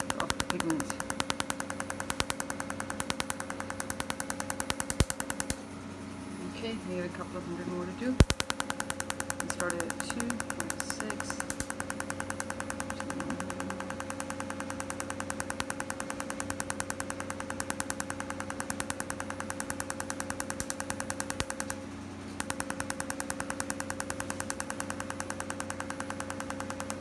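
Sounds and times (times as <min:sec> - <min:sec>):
laser pulses snapping: 0:00.0 - 0:05.6, 0:08.2 - 0:21.8, 0:22.4 - 0:27.0
laser unit humming: 0:00.0 - 0:27.0.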